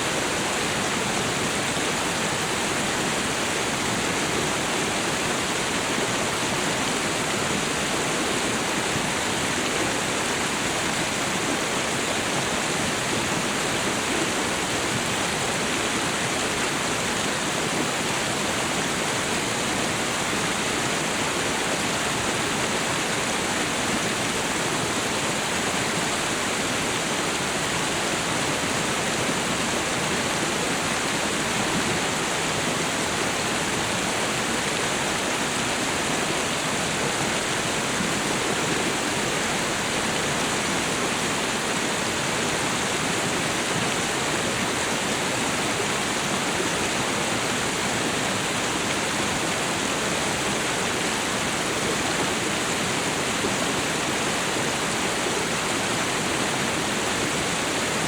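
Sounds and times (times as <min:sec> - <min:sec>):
waterfall and river rushing: 0:00.0 - 0:58.0.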